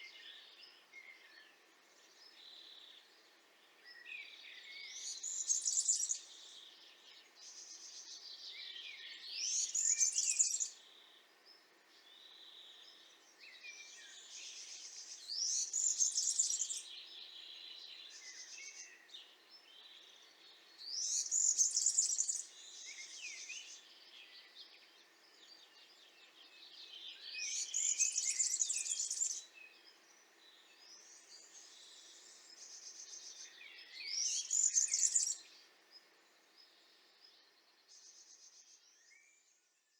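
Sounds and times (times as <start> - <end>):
bird singing: 3.8 - 11.2, 11.9 - 39.9.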